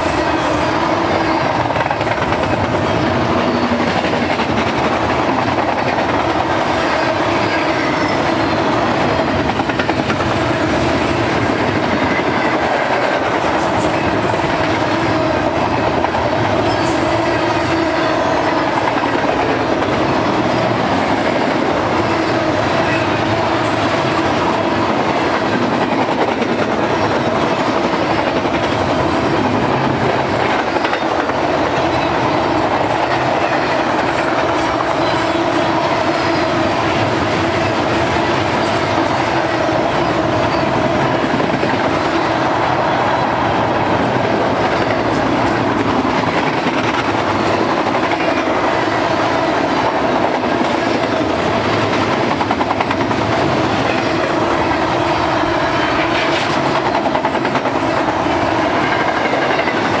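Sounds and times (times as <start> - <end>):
steel wheels on rail: 0.0 - 60.0.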